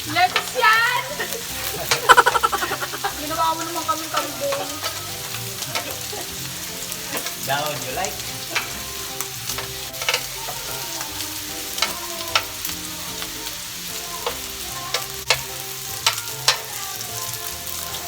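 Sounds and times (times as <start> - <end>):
pork sizzling on a grill: 0.0 - 18.0.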